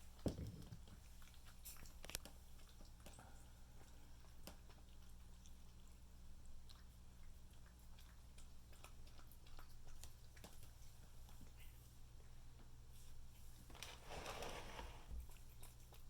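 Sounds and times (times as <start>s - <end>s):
cats eating wet food: 0.0s - 16.0s.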